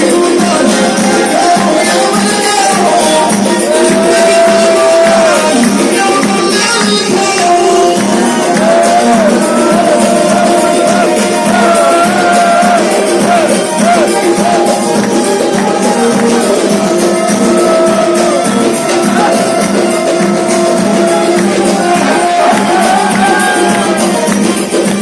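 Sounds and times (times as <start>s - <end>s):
hand percussion: 0.0s - 25.0s
tambourine jingle: 0.0s - 25.0s
ornamented melody: 0.4s - 25.0s.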